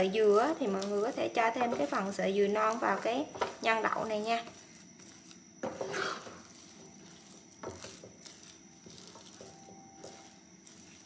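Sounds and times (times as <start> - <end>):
spatula scraping paste in pan: 0.1 - 11.0.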